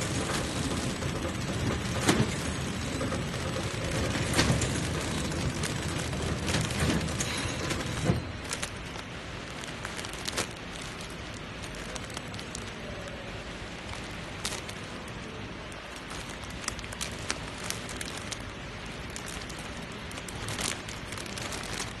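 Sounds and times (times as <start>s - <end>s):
packaging machine running: 0.0s - 22.0s
plastic film crinkling: 0.0s - 22.0s.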